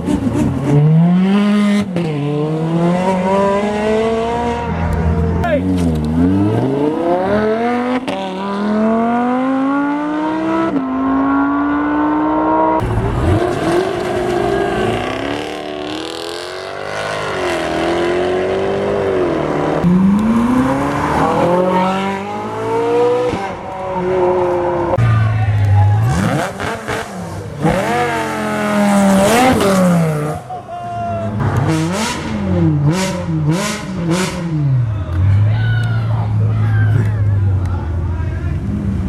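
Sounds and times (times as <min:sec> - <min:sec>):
car engines accelerating hard: 0:00.0 - 0:30.5, 0:31.1 - 0:39.0.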